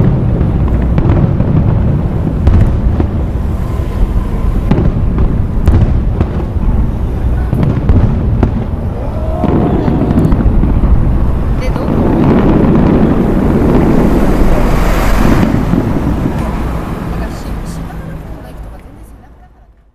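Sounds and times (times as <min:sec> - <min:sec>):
sharp firework bangs: 0:00.0 - 0:18.2
fireworks booming: 0:00.0 - 0:19.3.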